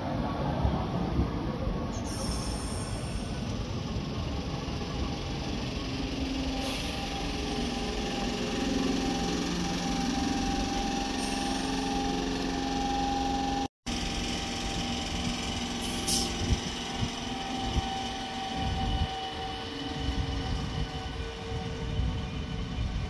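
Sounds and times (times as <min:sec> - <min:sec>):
train wheels rumbling: 0:00.0 - 0:23.0
traction motors whining: 0:02.0 - 0:23.0.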